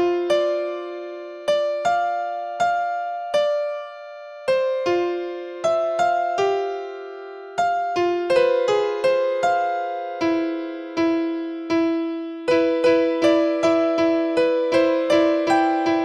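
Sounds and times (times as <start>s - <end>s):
simple keyboard melody: 0.0s - 16.0s.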